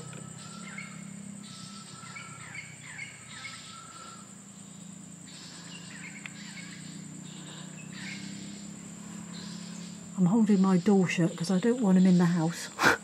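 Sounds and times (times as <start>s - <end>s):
birds chirping and whistling: 0.0s - 13.0s
high-pitched insect drone: 0.0s - 13.0s
low steady hum: 0.0s - 13.0s.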